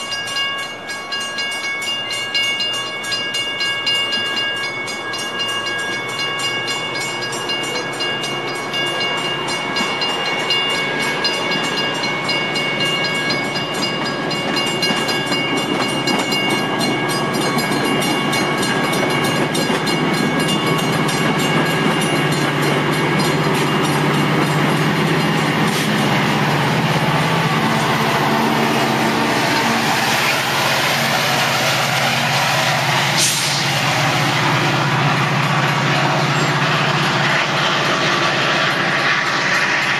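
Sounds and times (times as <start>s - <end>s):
crossing warning bells: 0.0s - 39.9s
diesel locomotive engine: 0.0s - 39.9s
train wheels rolling on rails: 0.0s - 39.9s.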